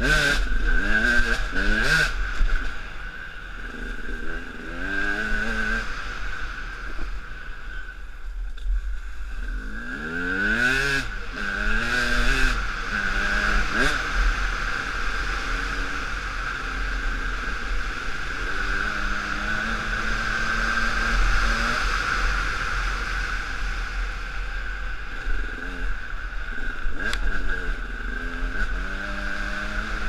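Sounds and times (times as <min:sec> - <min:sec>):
dirt bike engine revving: 0:00.0 - 0:02.9, 0:03.5 - 0:07.0, 0:09.4 - 0:23.9, 0:25.1 - 0:30.0.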